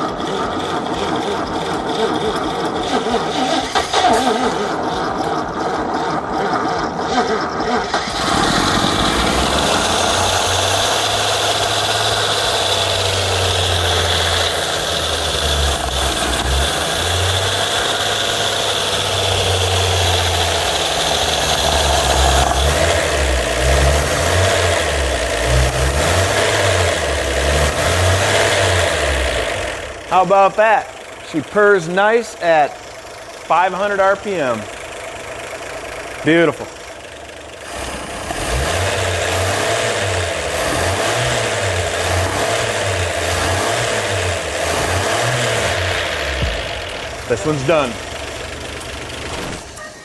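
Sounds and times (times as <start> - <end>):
engine cranking on starter: 0.0 - 31.9, 32.8 - 50.0
engine running smoothly: 0.0 - 50.0.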